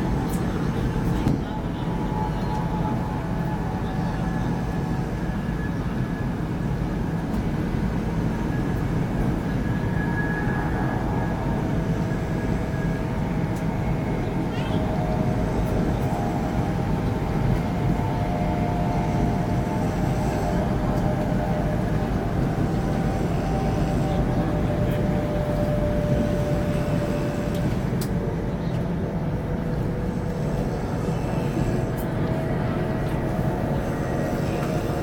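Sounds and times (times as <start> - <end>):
train rumble and rush: 0.0 - 35.0.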